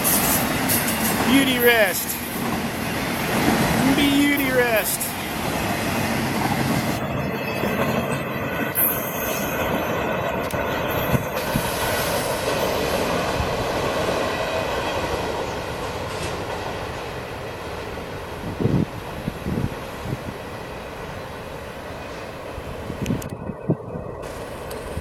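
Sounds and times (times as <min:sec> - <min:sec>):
train wheels rolling on rail: 0:00.0 - 0:25.0.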